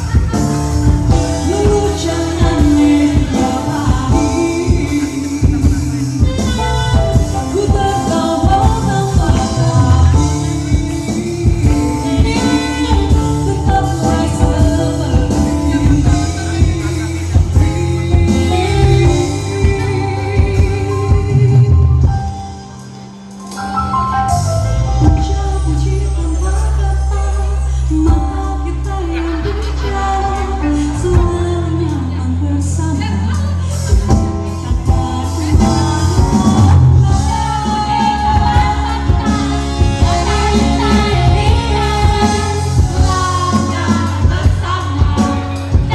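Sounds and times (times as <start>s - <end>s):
long steady bass notes: 0.0s - 22.4s, 23.7s - 45.9s
pop song with singer and band: 0.0s - 45.9s.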